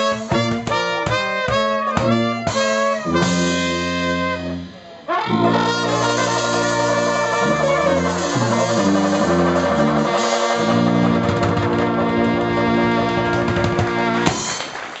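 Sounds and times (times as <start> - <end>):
tuba bass line: 0.0 - 14.6
jazz band playing live: 0.0 - 14.9.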